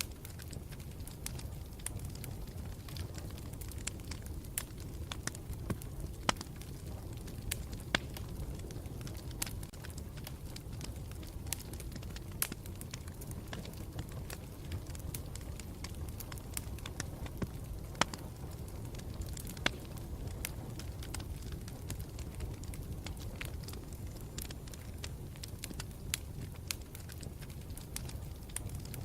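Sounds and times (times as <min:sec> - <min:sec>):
campfire crackling and popping: 0:00.0 - 0:29.0
fire low rumble: 0:00.0 - 0:29.0.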